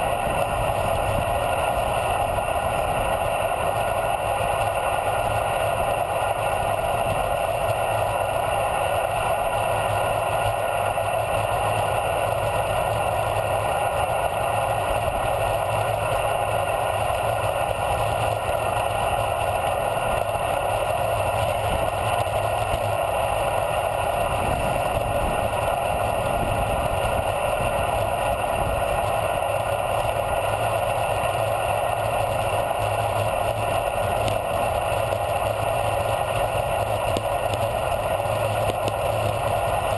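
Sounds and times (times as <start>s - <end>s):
bicycle tyre noise on asphalt: 0.0s - 39.9s.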